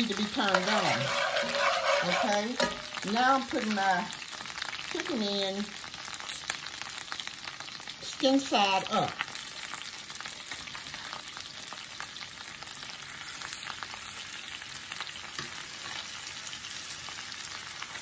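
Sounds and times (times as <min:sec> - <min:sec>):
chicken sizzling in a skillet: 0:00.0 - 0:18.0.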